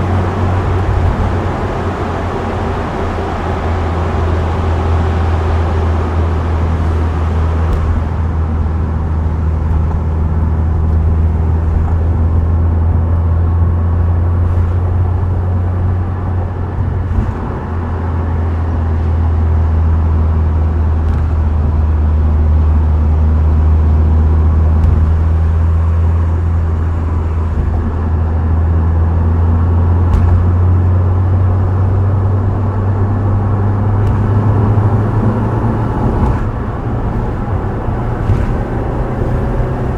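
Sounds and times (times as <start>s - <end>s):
car engine and exhaust droning: 0.0s - 39.9s
tyre and road noise: 0.0s - 39.9s.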